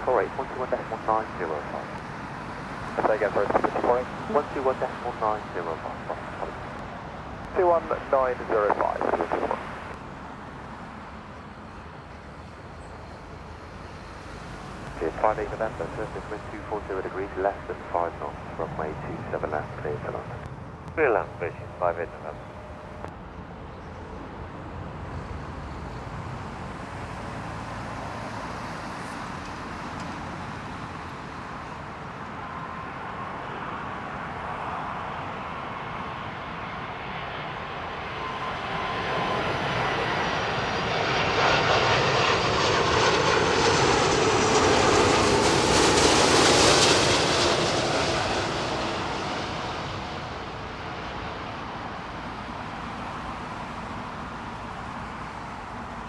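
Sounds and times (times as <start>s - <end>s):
jet airliner engine noise: 0.0s - 56.0s.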